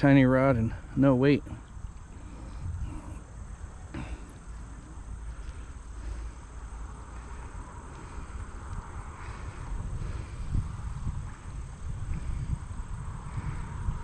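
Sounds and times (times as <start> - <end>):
wind rumbling over microphone: 0.0 - 14.0.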